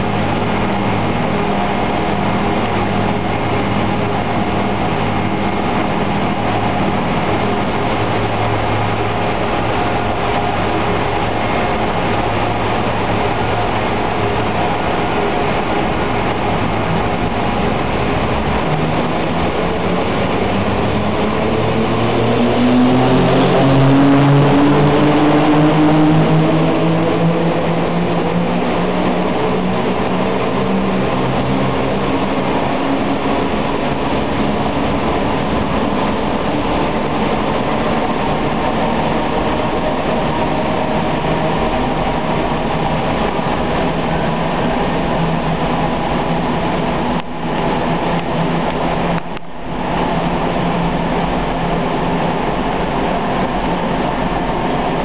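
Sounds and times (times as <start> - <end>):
electric locomotive whine: 0.0 - 55.0.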